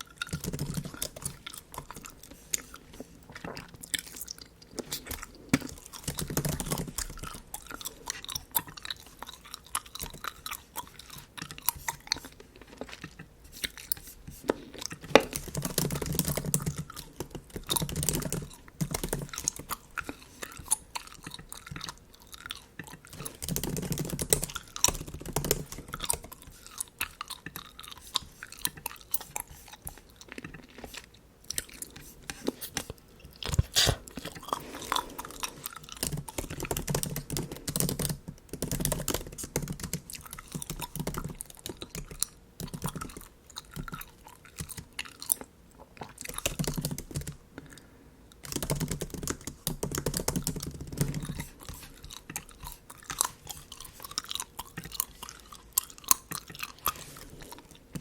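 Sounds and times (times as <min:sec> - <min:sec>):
gum chewing clicks: 0:00.0 - 0:58.0.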